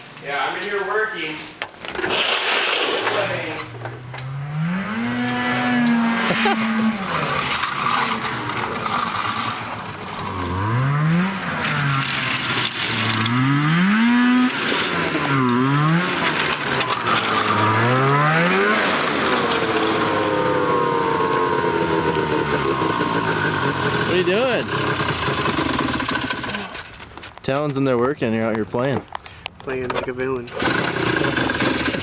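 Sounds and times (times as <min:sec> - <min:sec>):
dirt bike engine revving: 0:01.9 - 0:26.9, 0:30.6 - 0:32.0.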